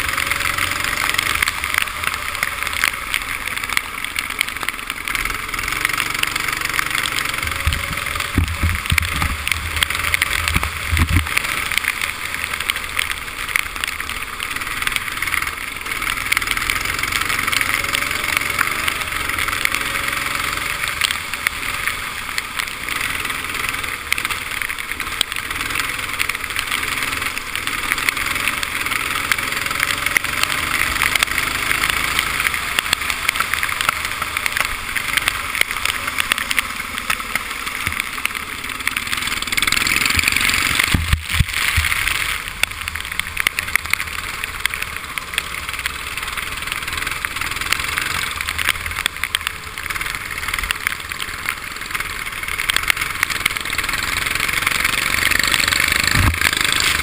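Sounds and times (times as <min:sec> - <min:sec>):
kart engine running at speed: 0:00.0 - 0:57.0
wind rush and tyre spray: 0:00.0 - 0:57.0.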